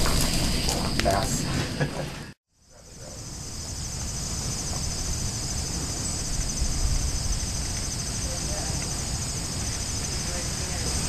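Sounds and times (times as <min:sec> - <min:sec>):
pulsing insect chorus: 0:00.0 - 0:11.0.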